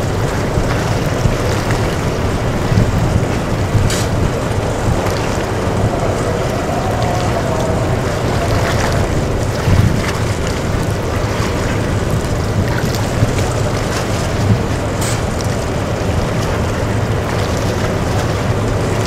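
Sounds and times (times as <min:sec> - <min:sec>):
ship engine low drone: 0:00.0 - 0:19.0
wind on microphone: 0:00.0 - 0:19.0.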